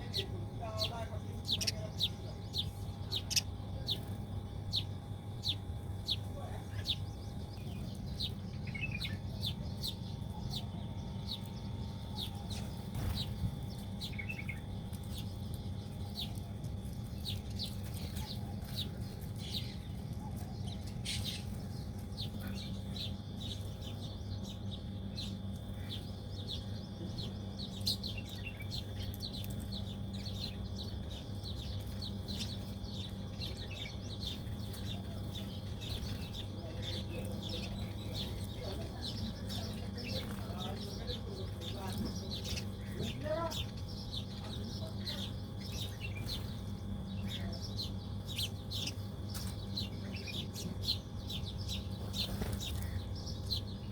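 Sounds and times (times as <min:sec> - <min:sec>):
low background hum: 0:00.0 - 0:53.9
small birds chirping: 0:00.0 - 0:53.9.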